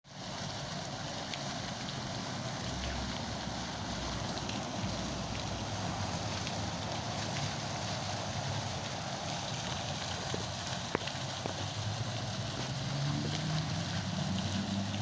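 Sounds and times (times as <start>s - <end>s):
water fountain splashing: 0.0s - 15.0s.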